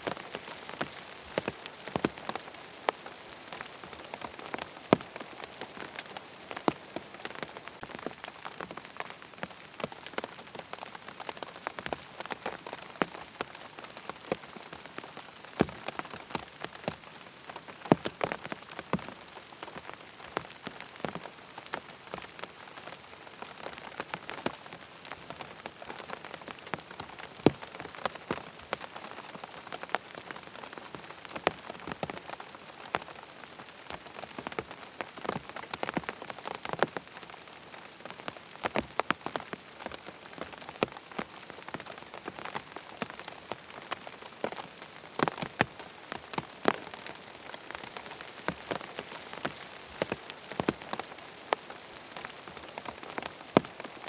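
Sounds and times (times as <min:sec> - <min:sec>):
sharp raindrops striking close: 0:00.0 - 0:54.0
steady rain: 0:00.0 - 0:54.0.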